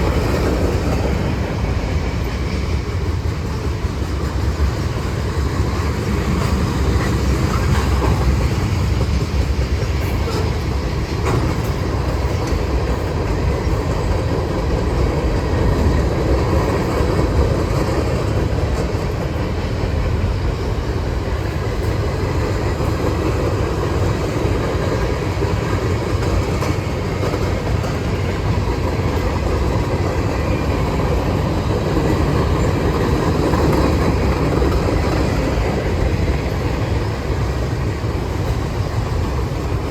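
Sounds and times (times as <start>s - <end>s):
rail joint clicks: 0.0s - 39.9s
train wheels rumbling on rails: 0.0s - 39.9s.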